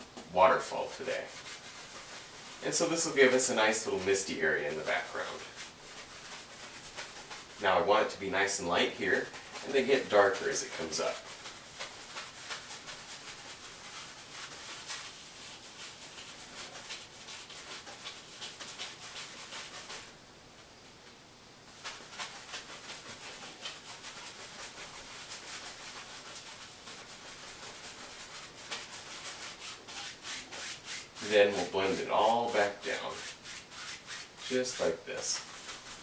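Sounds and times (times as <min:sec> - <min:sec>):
paintbrush scrubbing canvas: 0:00.0 - 0:20.2, 0:21.7 - 0:36.0.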